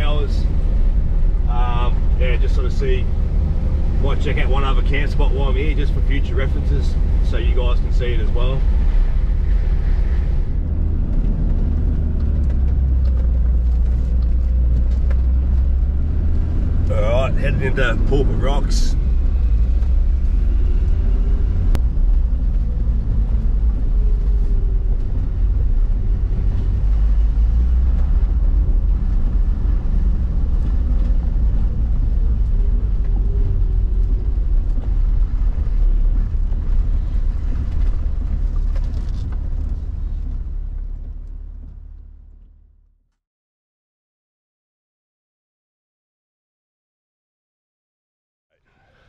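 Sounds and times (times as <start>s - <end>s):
engine and tyres rumbling: 0.0s - 43.1s.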